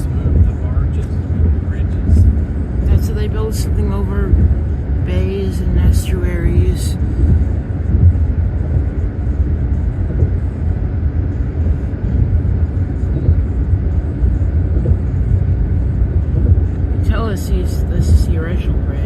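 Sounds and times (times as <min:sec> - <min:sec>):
car interior road rumble: 0:00.0 - 0:19.0.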